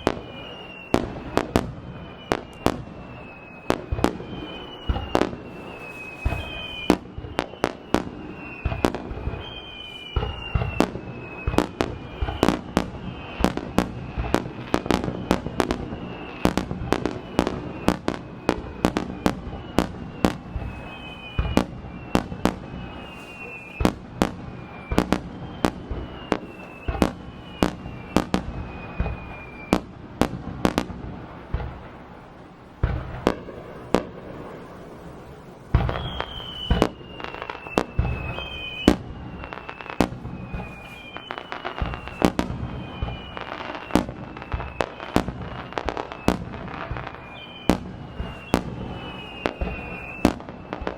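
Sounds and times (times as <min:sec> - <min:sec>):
firework bangs: 0:00.0 - 0:50.9
firework whistling: 0:00.0 - 0:50.9.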